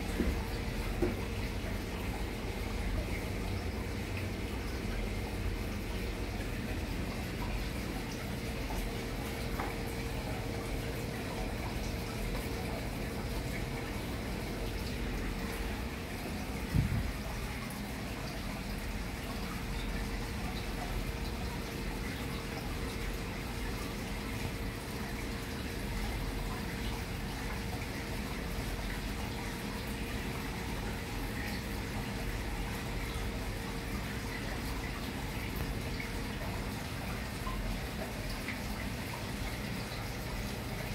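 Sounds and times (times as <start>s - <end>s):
aquarium water bubbling and trickling: 0.0s - 40.9s
faint steady hum: 0.0s - 40.9s.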